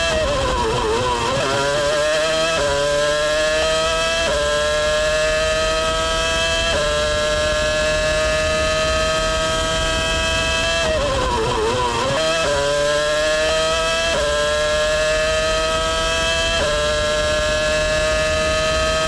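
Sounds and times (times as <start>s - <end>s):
racing engine revving: 0.0s - 19.0s.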